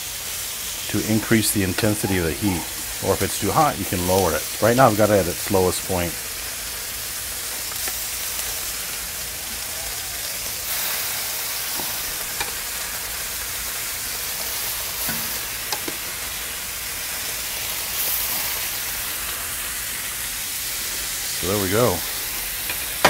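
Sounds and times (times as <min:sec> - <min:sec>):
bacon sizzling on a griddle: 0:00.0 - 0:23.0.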